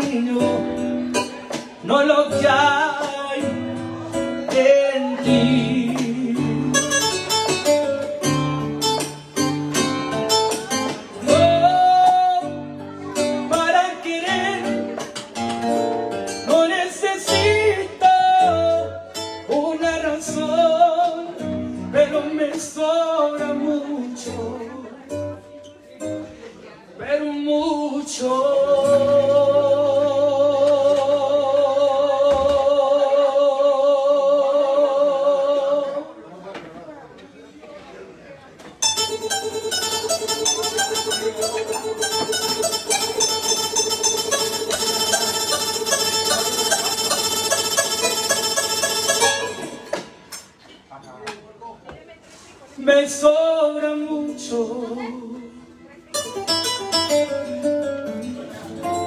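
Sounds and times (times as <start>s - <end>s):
plucked guitar: 0.0s - 34.7s, 38.7s - 50.7s, 53.1s - 59.0s.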